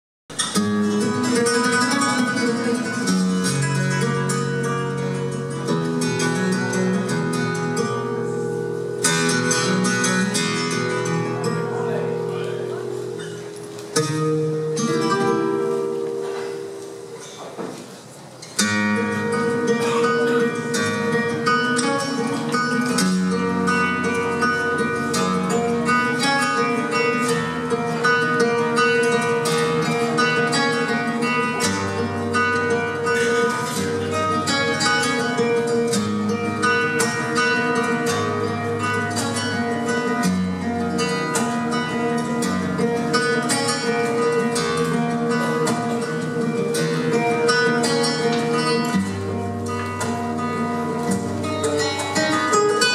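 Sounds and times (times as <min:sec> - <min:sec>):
flamenco guitar duet: 0:00.3 - 0:52.9.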